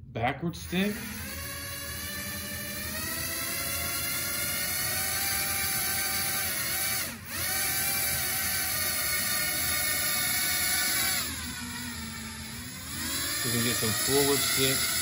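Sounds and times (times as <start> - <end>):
small electric motors whining: 0.8 - 15.0.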